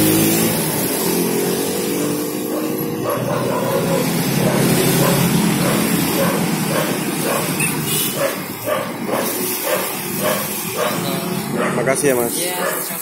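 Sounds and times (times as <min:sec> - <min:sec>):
street noise: 0:00.0 - 0:13.0
vehicle engine running: 0:00.0 - 0:13.0.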